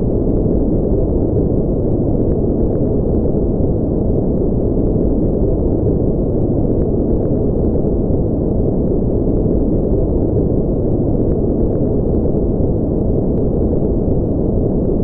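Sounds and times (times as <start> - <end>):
deep white noise: 0.0 - 15.0.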